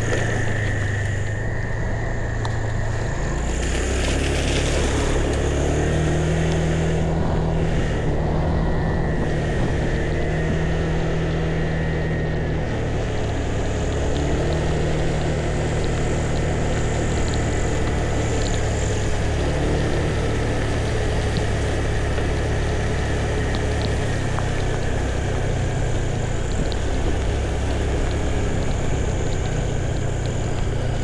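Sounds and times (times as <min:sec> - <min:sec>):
road and wind noise: 0:00.0 - 0:31.0
vehicle engine drone: 0:00.0 - 0:31.0.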